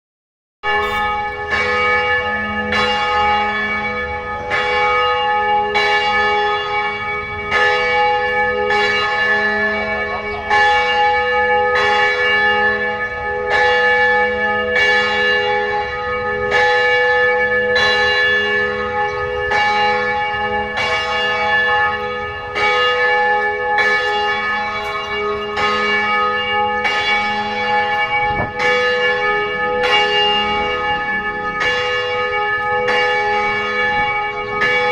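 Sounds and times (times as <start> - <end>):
church bell ringing: 0.6 - 34.9.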